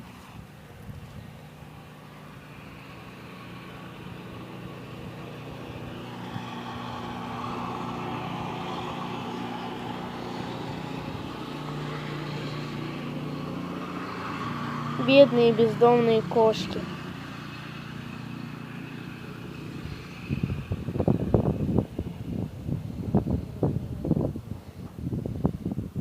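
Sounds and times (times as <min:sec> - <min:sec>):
vehicle engine running: 0:00.0 - 0:25.7.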